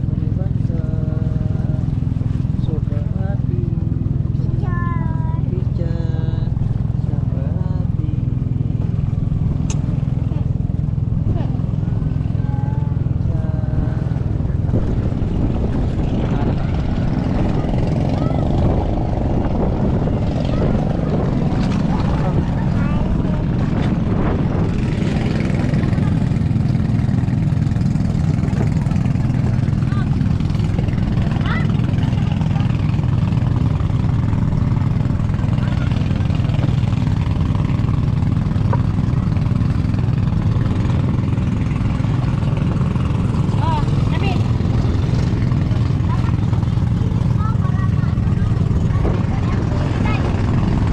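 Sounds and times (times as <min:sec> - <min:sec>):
boat engine throbbing: 0:00.0 - 0:50.9.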